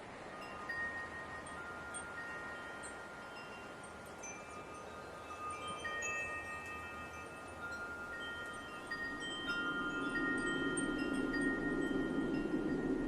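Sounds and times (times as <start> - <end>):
faint hiss of light wind: 0.0 - 13.0
wind chimes ringing softly: 0.0 - 13.0.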